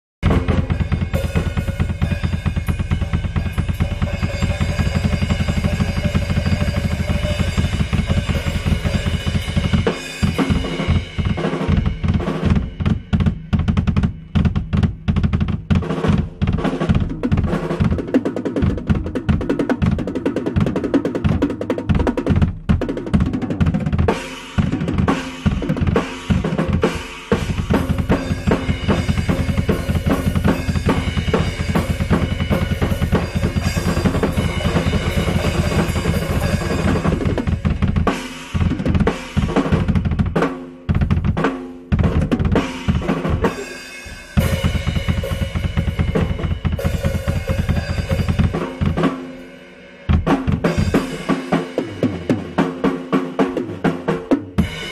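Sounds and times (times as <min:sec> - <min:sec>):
drum kit playing fast rolls: 0:00.2 - 0:54.9.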